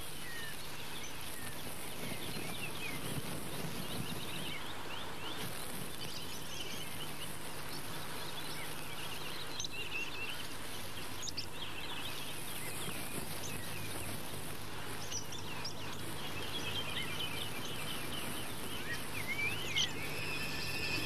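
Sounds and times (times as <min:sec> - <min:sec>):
faint low hum: 0:00.0 - 0:21.0
small birds chirping: 0:00.0 - 0:21.0
steady background hiss: 0:00.0 - 0:21.0.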